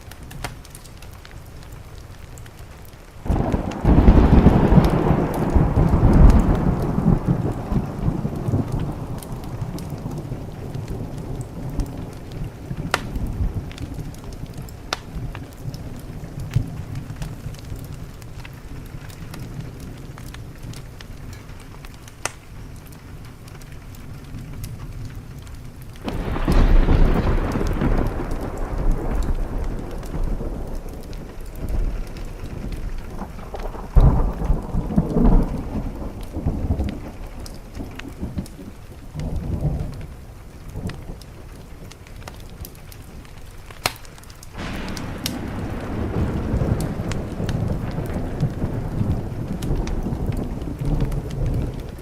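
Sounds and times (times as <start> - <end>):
steady rain: 0.0 - 52.0
wood fire crackling: 0.0 - 52.0
thunder clap and rumble: 0.4 - 52.0.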